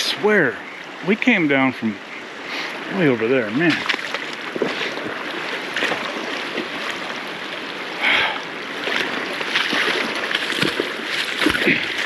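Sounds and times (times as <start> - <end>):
stream running: 0.0 - 12.0.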